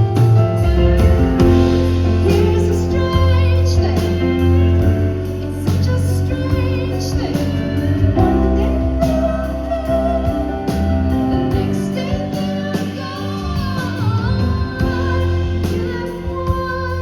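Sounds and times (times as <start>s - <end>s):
pop band playing chords: 0.0s - 17.0s
person singing: 0.7s - 17.0s.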